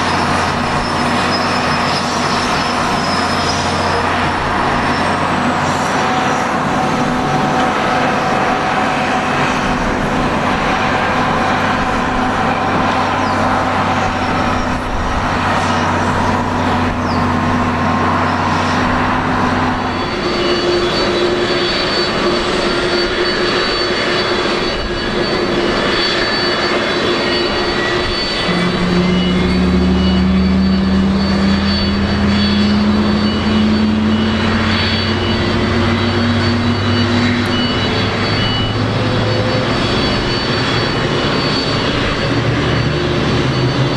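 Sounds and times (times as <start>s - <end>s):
jet engines humming and whining: 0.0s - 43.9s.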